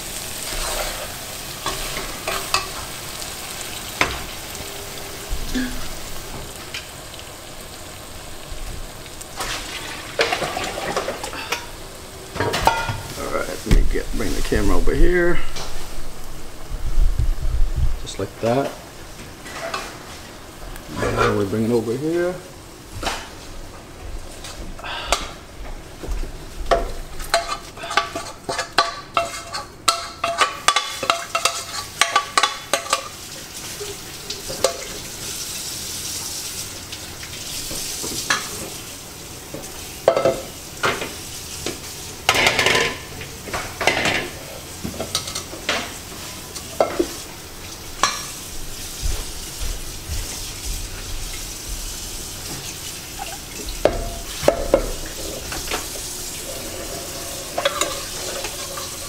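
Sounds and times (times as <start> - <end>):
steady hiss from pot on burner: 0.0 - 59.0.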